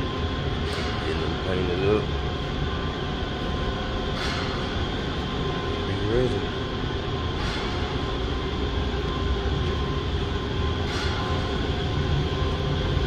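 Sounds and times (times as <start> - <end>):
faint constant hum: 0.0 - 13.0
low rumble of machinery: 0.0 - 13.0.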